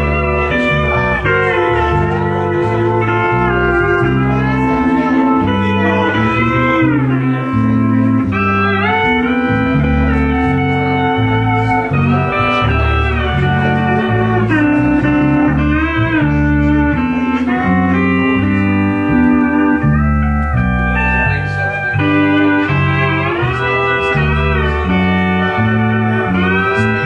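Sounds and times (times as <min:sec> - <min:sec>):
low bass notes: 0:00.0 - 0:27.0
pedal steel guitar chords: 0:00.0 - 0:27.0.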